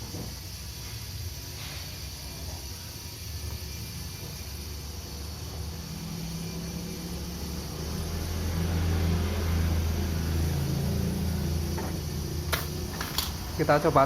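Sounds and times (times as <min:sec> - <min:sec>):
hot air station blowing: 0:00.0 - 0:14.0.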